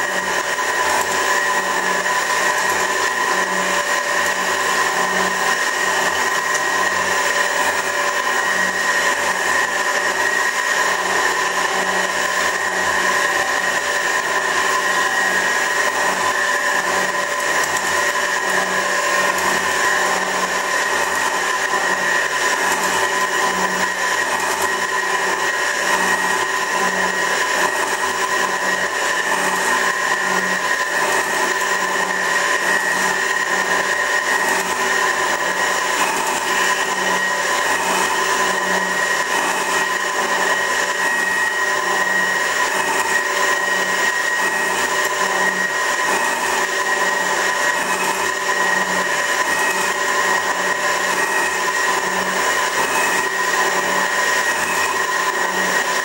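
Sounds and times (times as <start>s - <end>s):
metal shaper machine whining: 0.0s - 56.0s.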